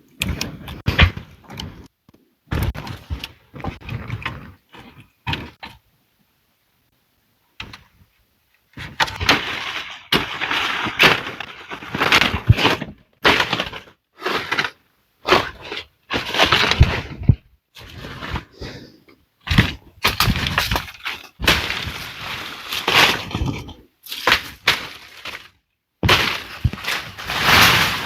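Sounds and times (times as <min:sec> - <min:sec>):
wood cracking and breaking: 0:00.1 - 0:01.9, 0:02.5 - 0:05.8, 0:08.7 - 0:18.6, 0:19.4 - 0:28.0.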